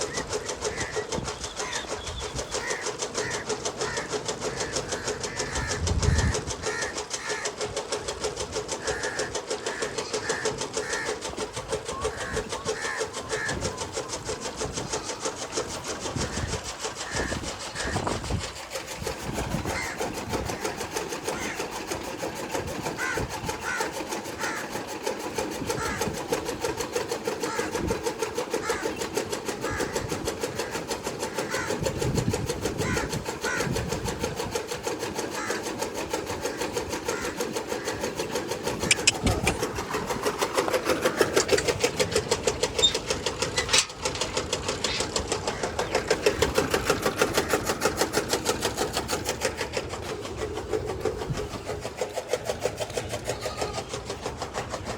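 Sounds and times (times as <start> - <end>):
chaff cutter chopping fodder: 0.0 - 54.9.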